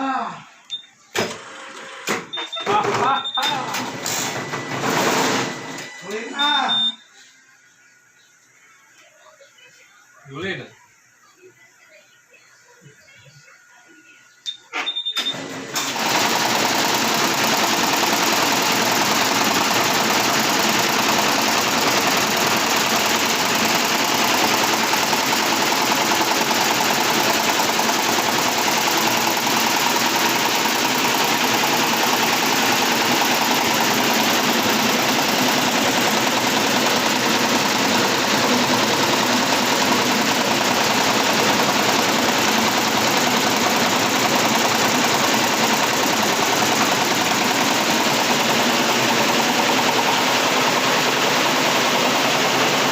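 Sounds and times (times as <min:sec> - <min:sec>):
embroidery machine stitching: 0:01.2 - 0:05.8, 0:15.2 - 0:52.9.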